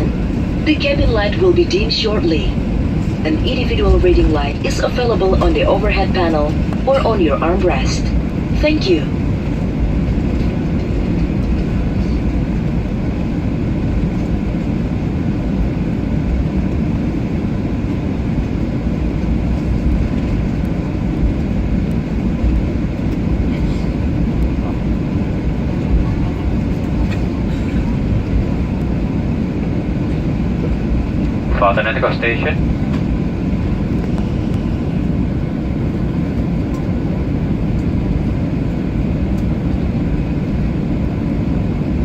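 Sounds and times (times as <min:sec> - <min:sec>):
jet engine rumble in cabin: 0:00.0 - 0:42.0.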